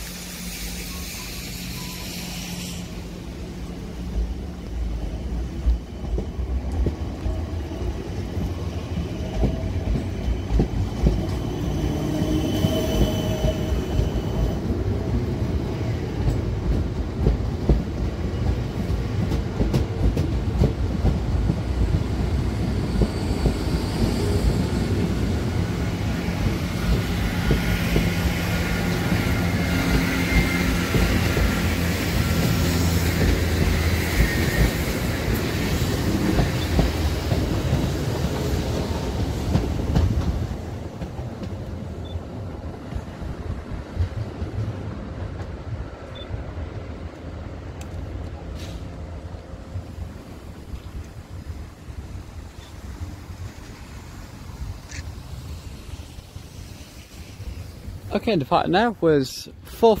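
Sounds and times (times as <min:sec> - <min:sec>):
train low rumble: 0:00.0 - 1:00.0.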